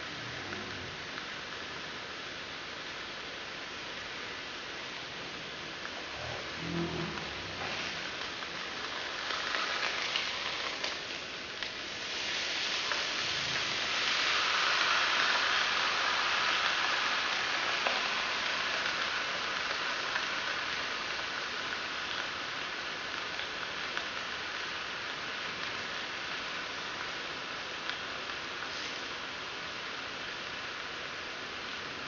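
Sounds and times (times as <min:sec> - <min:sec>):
fish sizzling in a grill pan: 0:05.5 - 0:31.3.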